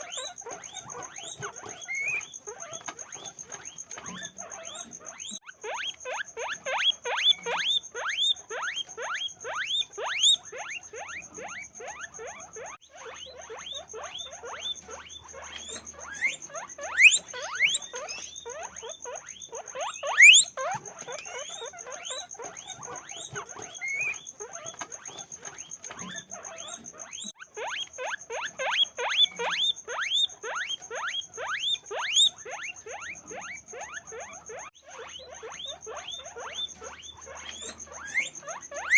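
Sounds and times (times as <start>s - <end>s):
guinea pigs squeaking: 0.0s - 38.9s
shrill guinea pig squeals: 0.0s - 38.9s.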